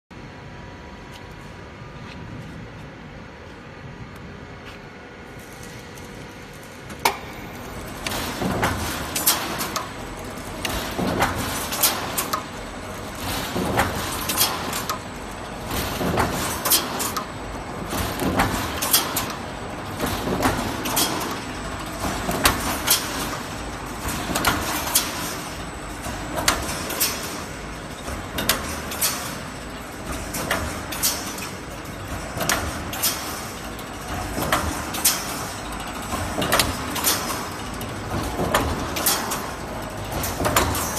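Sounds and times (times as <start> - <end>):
steady machine noise: 5.1 - 40.9.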